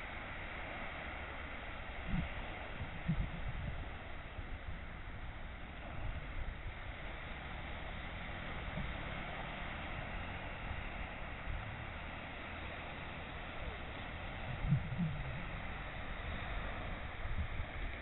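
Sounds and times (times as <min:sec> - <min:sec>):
small waves breaking on beach: 0:00.0 - 0:18.0
wind buffeting microphone: 0:01.8 - 0:18.0.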